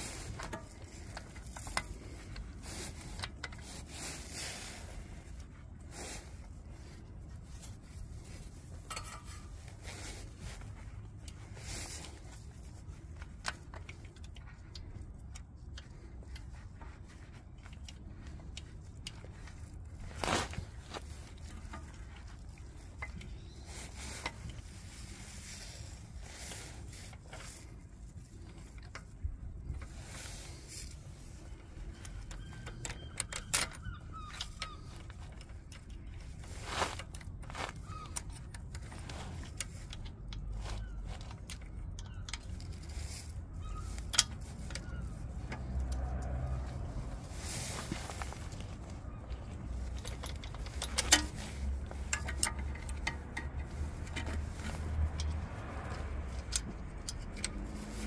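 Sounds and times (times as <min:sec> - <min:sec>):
light metallic clicks and taps: 0:07.6 - 0:25.1, 0:26.9 - 0:58.0.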